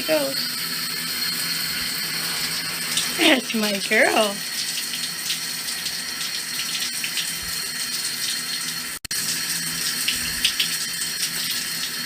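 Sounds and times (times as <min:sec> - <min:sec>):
shower water spraying: 0:00.0 - 0:12.0.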